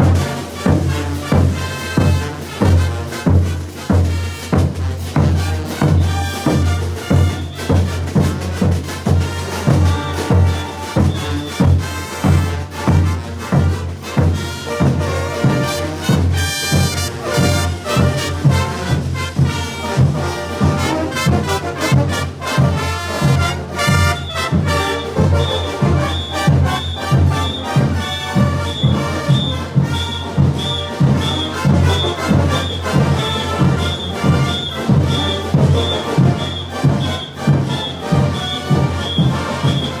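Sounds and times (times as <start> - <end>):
heavy drum beat: 0.0 - 40.0
trumpets and trombones: 0.0 - 40.0.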